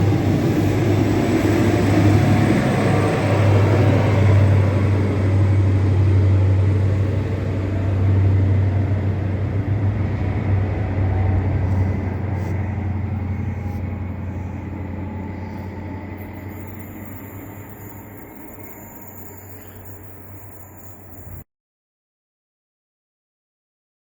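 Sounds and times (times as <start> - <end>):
diesel train passing: 0.0 - 21.4.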